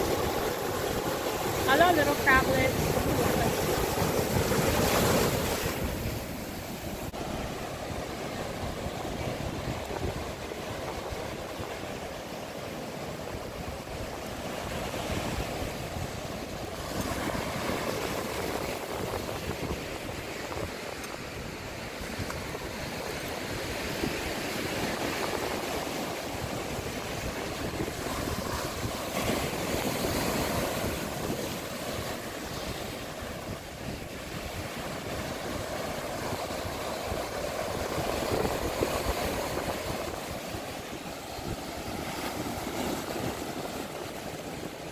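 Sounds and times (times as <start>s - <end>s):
ocean surf breaking on shore: 0.0s - 44.9s.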